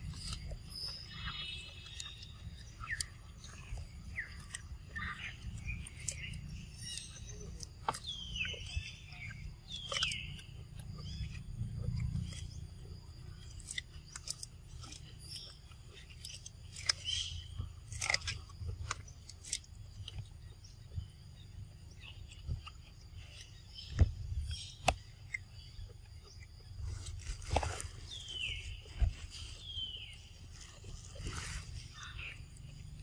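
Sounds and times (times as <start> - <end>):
monkeys chewing corn: 0.0 - 33.0.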